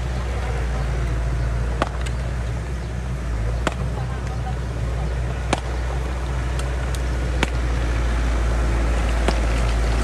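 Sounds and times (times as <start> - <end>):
bulldozer diesel engine rumbling: 0.0 - 10.0.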